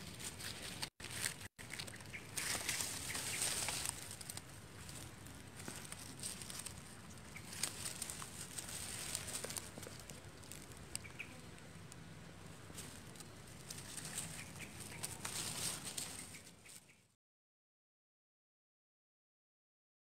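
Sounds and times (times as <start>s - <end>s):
leaves and twigs rustling: 0.0s - 17.1s.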